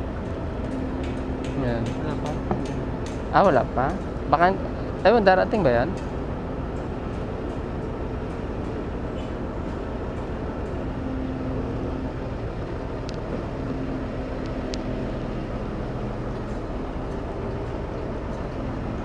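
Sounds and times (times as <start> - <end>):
engine rumble with low hum: 0.0 - 19.0.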